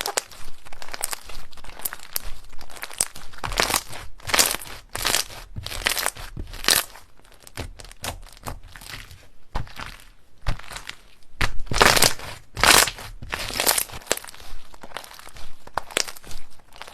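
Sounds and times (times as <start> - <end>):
slime crackling and crunching: 0.0 - 16.9.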